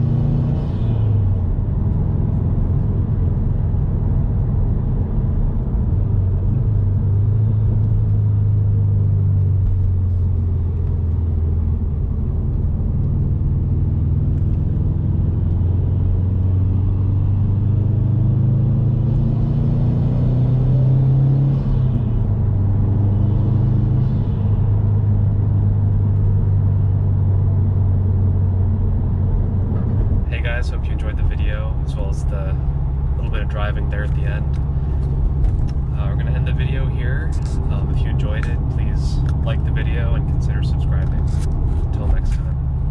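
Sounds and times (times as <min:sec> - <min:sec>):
car engine droning: 0:00.0 - 0:42.9.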